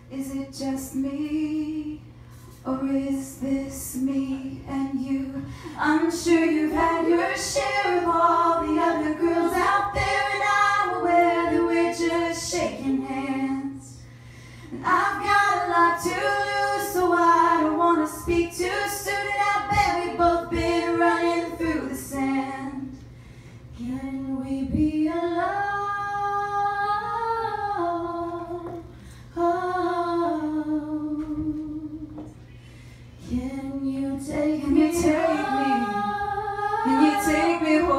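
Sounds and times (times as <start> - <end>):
woman singing into a microphone: 0.0 - 14.0, 14.8 - 23.0, 23.8 - 32.4, 33.2 - 37.9.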